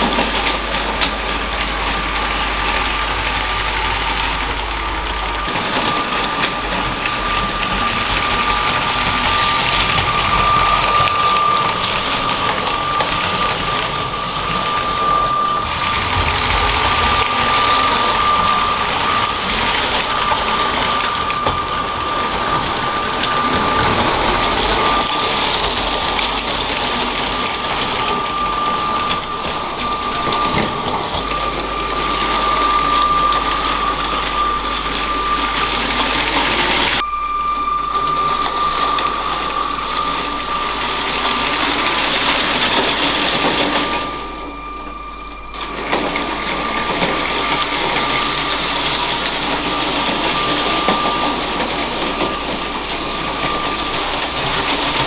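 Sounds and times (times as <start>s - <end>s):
small electric motor whining: 0.0s - 55.0s
wheels rumbling on plastic track: 0.0s - 55.0s.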